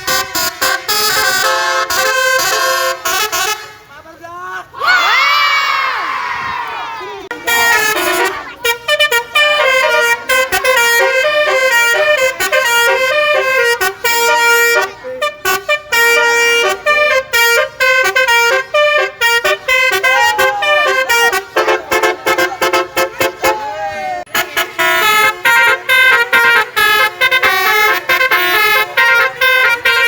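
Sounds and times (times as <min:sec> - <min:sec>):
musical bus horns playing melody: 0:00.0 - 0:04.1, 0:07.3 - 0:30.0.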